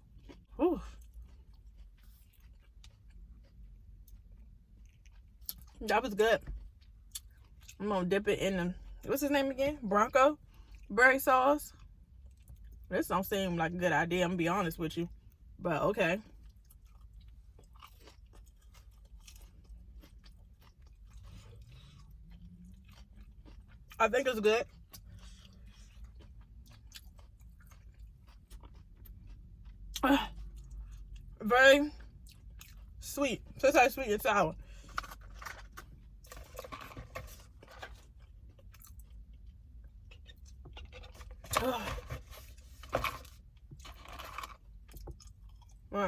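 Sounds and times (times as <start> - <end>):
chewing crunchy fried food: 0.0 - 9.0, 10.4 - 10.9, 11.6 - 12.9, 16.2 - 33.6, 34.5 - 46.0.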